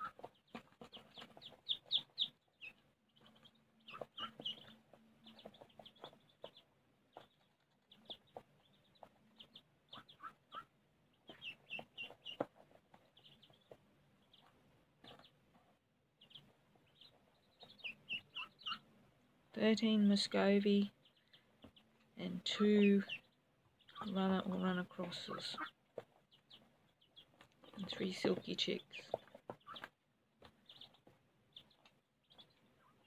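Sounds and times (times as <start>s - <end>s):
ducklings and chicks peeping: 0.0s - 33.0s.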